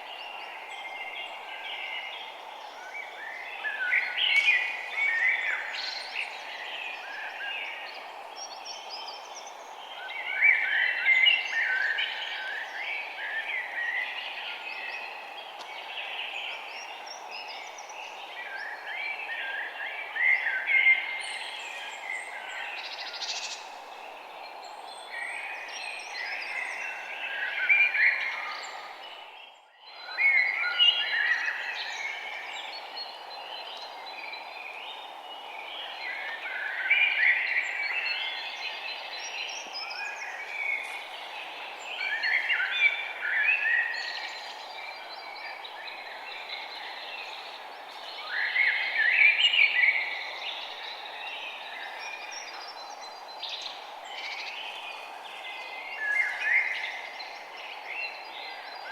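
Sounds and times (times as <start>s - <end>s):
background hiss: 0.0s - 58.9s
small birds chirping: 0.0s - 58.9s.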